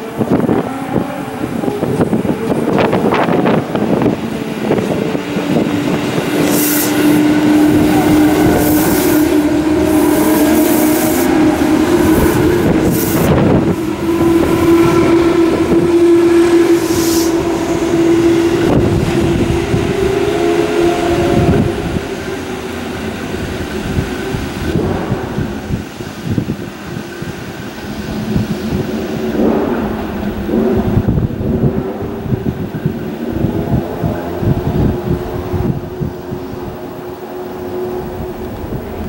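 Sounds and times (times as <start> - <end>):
train wheels clattering on track: 0.0 - 36.4
train motor hum: 0.0 - 39.0.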